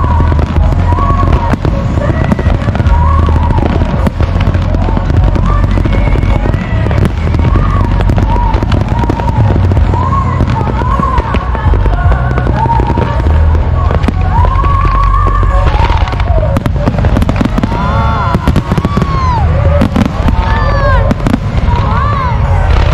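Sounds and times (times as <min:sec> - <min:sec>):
fireworks bangs and crackling: 0:00.0 - 0:22.9
low rumble: 0:00.0 - 0:22.9.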